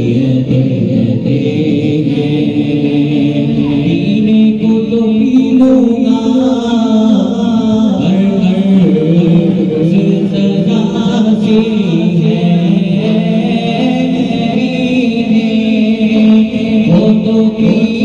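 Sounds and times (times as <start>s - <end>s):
drone-like vocal backing: 0.0s - 18.0s
voices singing devotional melody: 0.0s - 18.0s.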